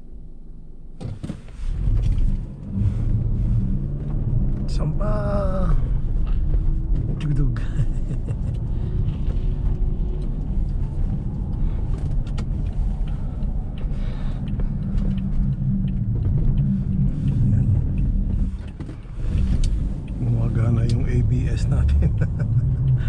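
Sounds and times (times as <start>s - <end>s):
car tyres and engine rumble: 0.0s - 23.0s.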